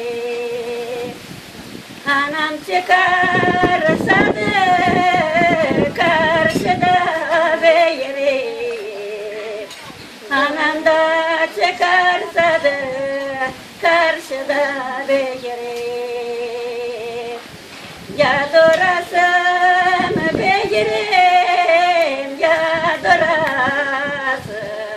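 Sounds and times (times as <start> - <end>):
woman singing unaccompanied: 0.0 - 24.9.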